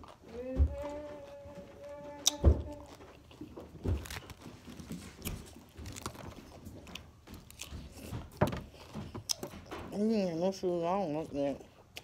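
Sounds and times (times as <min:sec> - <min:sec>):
chewing crisp vegetables: 0:00.0 - 0:12.0.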